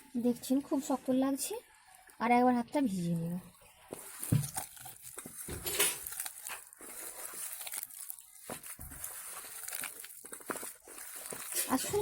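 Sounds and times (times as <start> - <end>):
hands kneading dough: 0.0 - 12.0.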